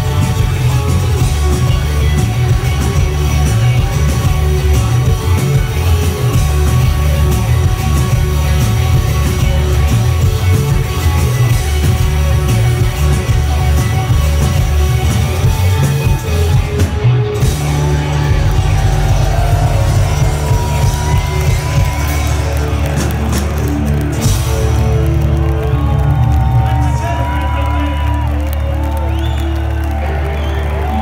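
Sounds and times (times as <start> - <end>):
heavy booming bass: 0.0 - 27.0
drums keeping a beat: 0.0 - 28.3
electric guitars: 0.0 - 31.0.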